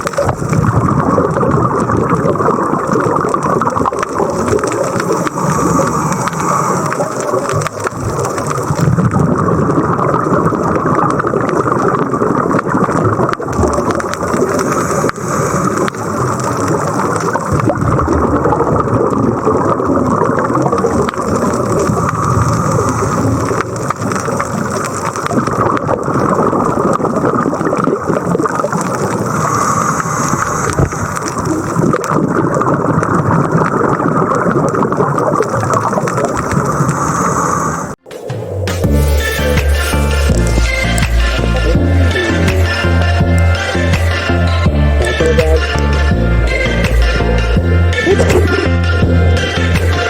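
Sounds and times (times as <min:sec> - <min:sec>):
underwater bubbles gurgling: 0:00.0 - 0:50.0.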